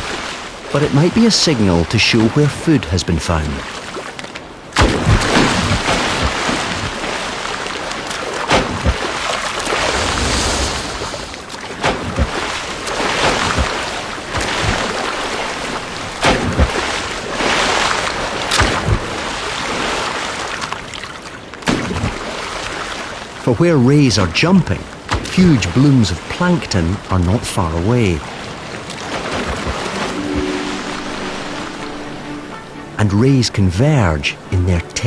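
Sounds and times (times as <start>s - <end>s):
rays splashing onto water: 0.0s - 2.7s, 3.3s - 23.4s, 25.0s - 35.0s
sea water rushing: 0.0s - 35.0s.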